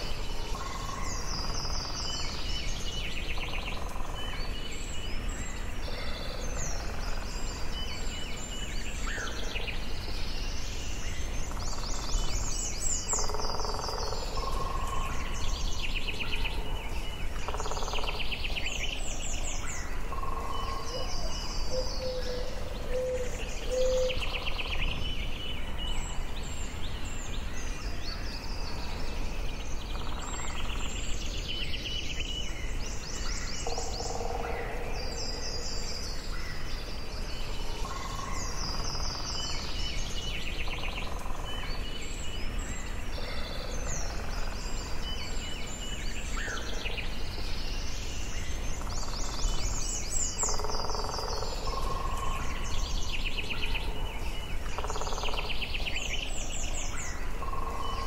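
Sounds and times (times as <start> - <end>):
birds singing and calling: 0.0 - 58.0.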